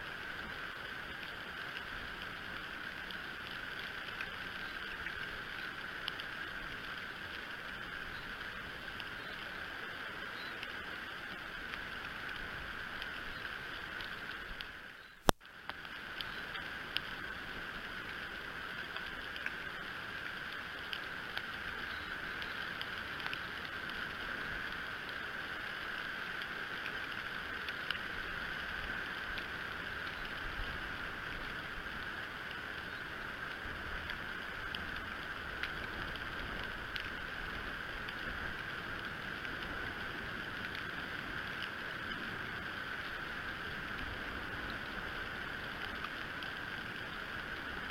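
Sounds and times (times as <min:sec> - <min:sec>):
faint ticks: 0:00.0 - 0:47.9.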